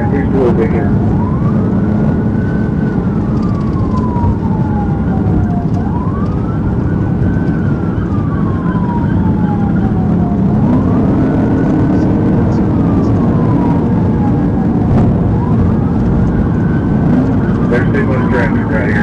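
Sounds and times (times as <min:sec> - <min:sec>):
car road and engine noise: 0:00.0 - 0:19.0
police siren wailing: 0:00.0 - 0:19.0.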